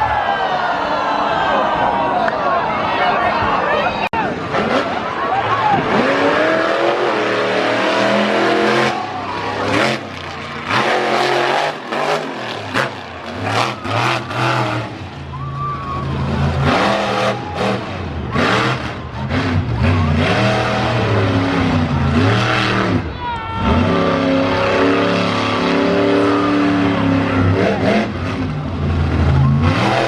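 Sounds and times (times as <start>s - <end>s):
truck engine revving: 4.4s - 30.0s.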